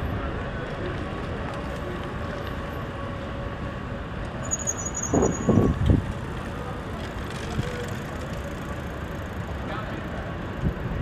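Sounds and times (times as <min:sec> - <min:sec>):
steady traffic noise: 0:00.0 - 0:11.0.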